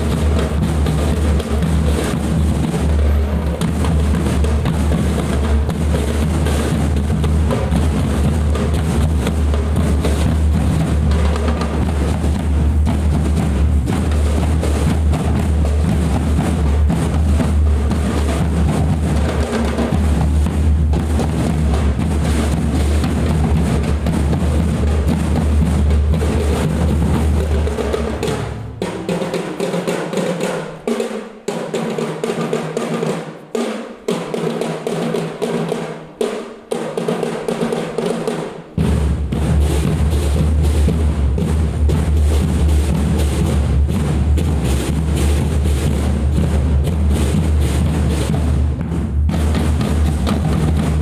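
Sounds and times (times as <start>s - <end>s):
drum band playing cadence: 0.0s - 51.0s.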